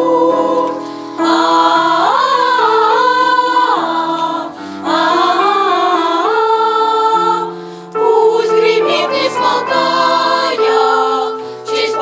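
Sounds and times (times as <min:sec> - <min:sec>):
children's choir singing with accompaniment: 0:00.0 - 0:12.0.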